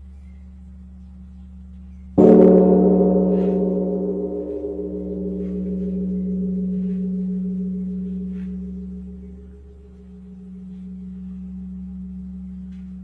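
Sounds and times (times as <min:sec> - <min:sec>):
steady low ringing tone: 0:00.0 - 0:13.0
gong ringing: 0:02.2 - 0:13.0.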